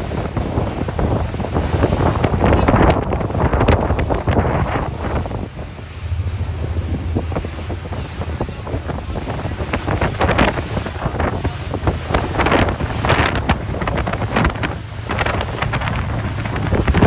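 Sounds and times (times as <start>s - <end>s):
constant low rumble: 0.0s - 17.0s
wind buffeting microphone: 0.0s - 17.0s.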